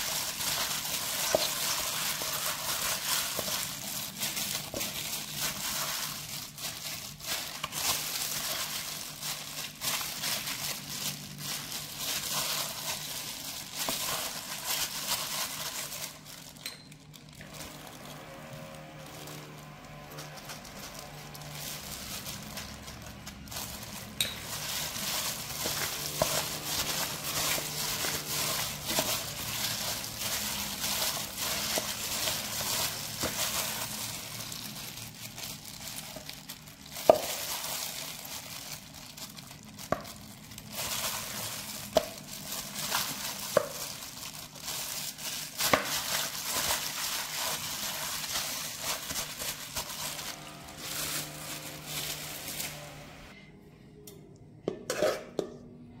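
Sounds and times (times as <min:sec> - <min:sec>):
wet meat squishing: 0:00.0 - 0:52.8
plastic glove crinkling: 0:00.0 - 0:53.4.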